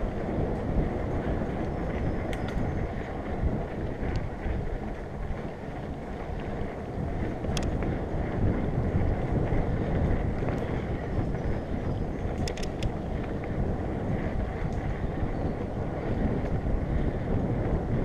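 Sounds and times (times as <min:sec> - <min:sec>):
bike clicks and rattles: 0:00.0 - 0:18.0
tyres rolling over dirt trail: 0:00.0 - 0:18.0
wind rushing over microphone: 0:00.0 - 0:18.0.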